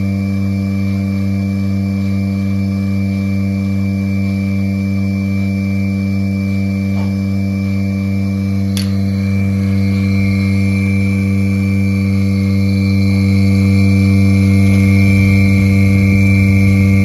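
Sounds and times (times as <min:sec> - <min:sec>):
vacuum pump humming: 0:00.0 - 0:17.0.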